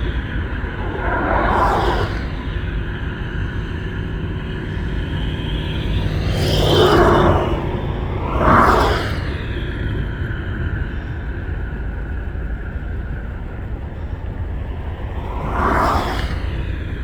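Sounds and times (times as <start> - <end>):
helicopter rotor rumble: 0.0 - 15.4.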